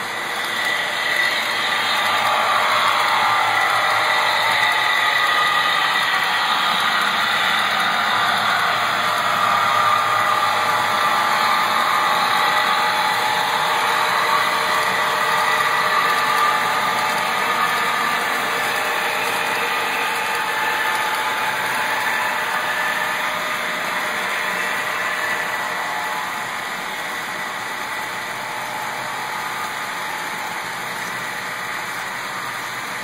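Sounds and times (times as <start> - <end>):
model locomotive engine sound: 0.0 - 33.0
model train cars rolling on track: 0.0 - 33.0.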